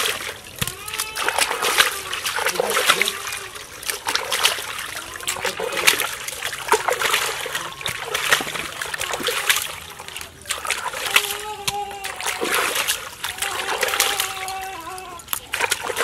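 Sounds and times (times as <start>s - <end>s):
trickling water: 0.0s - 16.0s
water splashing by hand: 0.0s - 16.0s.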